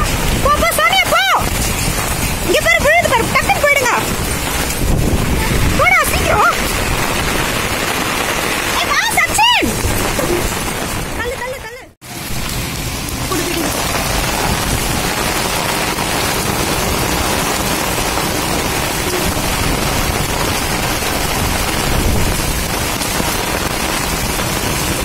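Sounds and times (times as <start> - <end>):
heavy rain on a tile roof: 0.0 - 25.0.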